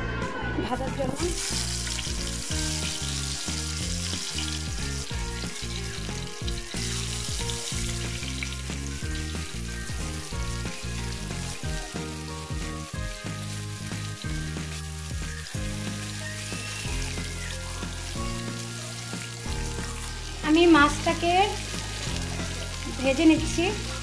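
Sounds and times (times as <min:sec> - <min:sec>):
background music with bass: 0:00.0 - 0:24.0
fish sizzling in hot oil: 0:01.2 - 0:24.0.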